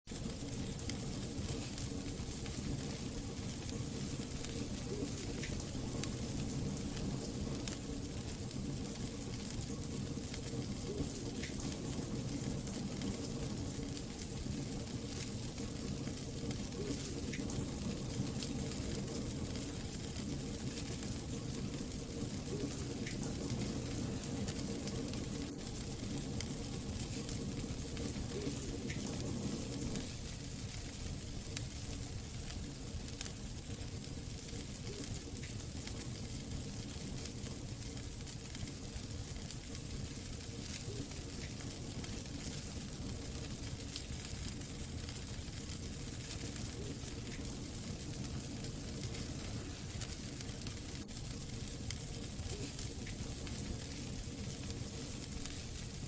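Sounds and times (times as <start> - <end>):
fire crackling and popping: 0.1 - 56.0.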